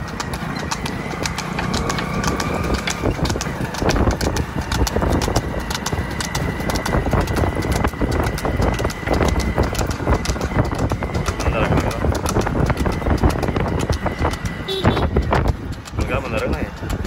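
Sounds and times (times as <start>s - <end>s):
hooves clopping on hard road: 0.0s - 17.0s.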